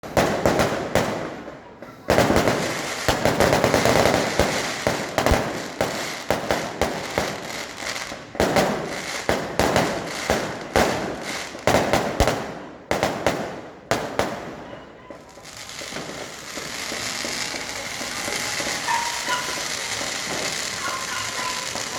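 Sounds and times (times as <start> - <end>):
fireworks bangs and crackles: 0.0 - 21.9.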